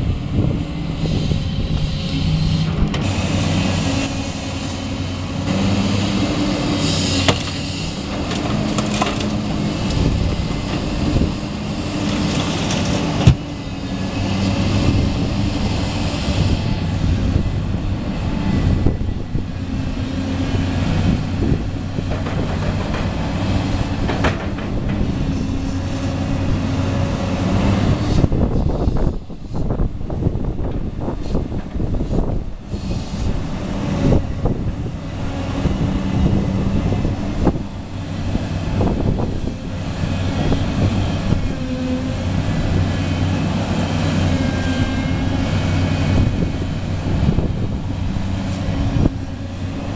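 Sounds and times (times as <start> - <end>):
diesel engine running: 0.0 - 29.4, 33.3 - 49.9.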